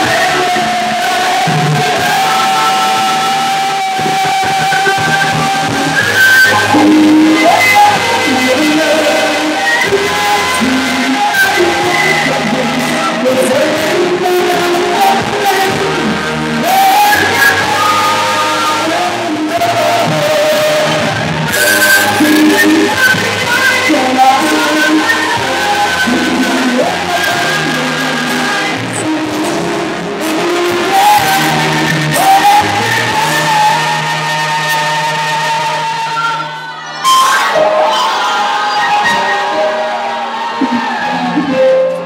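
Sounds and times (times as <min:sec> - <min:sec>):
live band playing: 0:00.0 - 0:42.0
person singing: 0:00.0 - 0:42.0.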